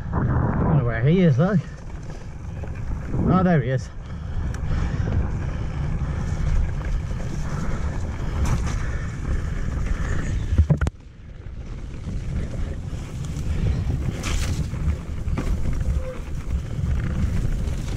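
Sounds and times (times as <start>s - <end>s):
bike tyres rolling on gravel: 0.0s - 17.9s
wind buffeting microphone: 0.0s - 17.9s.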